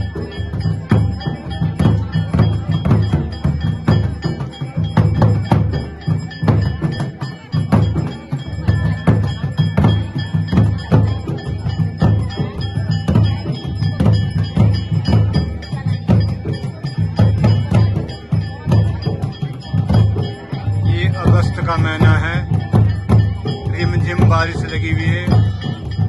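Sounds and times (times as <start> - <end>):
drums beating steadily: 0.0 - 26.0
metal percussion ringing: 0.0 - 26.0.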